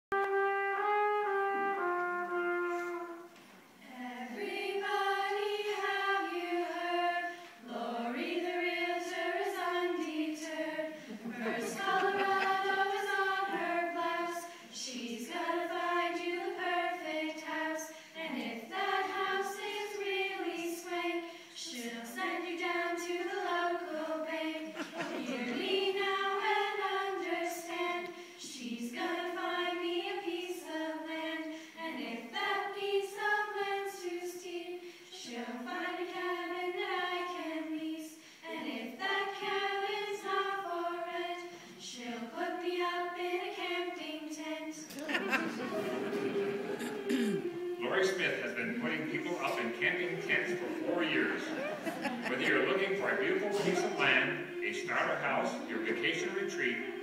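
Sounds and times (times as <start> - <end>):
choir singing cheerful song: 0.2 - 57.0.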